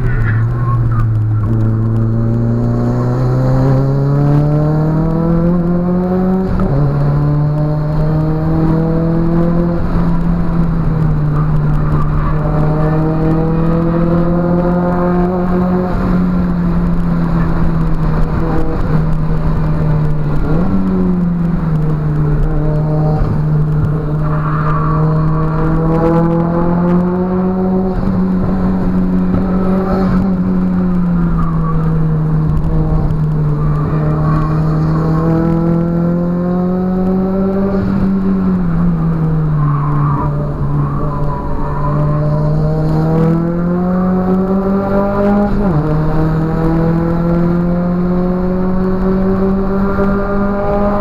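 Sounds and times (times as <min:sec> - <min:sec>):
car engine accelerating hard: 0:00.0 - 0:51.0.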